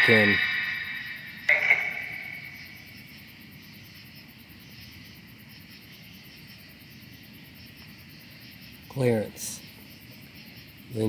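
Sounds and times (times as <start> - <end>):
crickets chirring: 0.0 - 11.0
low steady hiss: 0.0 - 11.0.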